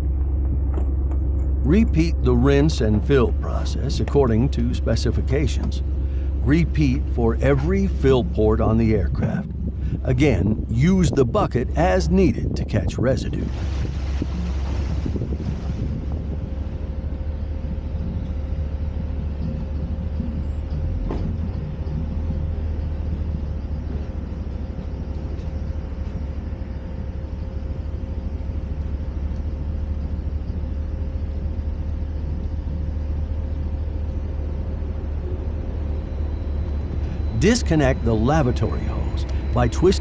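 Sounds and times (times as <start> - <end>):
faint steady whine: 0.0 - 40.0
truck engine rumbling: 0.0 - 40.0.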